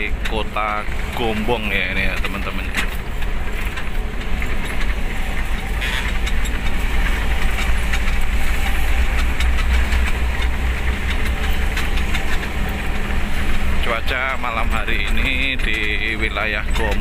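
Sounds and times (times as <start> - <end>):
bus engine rumble and road noise: 0.0 - 17.0
light ticks and rattles: 0.0 - 17.0.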